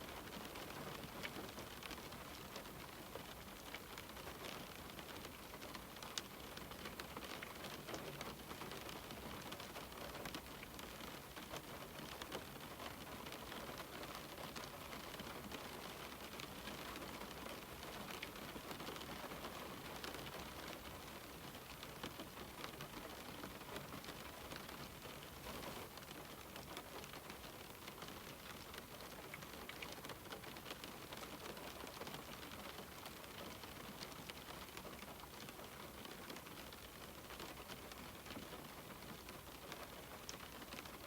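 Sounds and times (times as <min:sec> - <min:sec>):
rain on a window pane: 0:00.0 - 0:41.0.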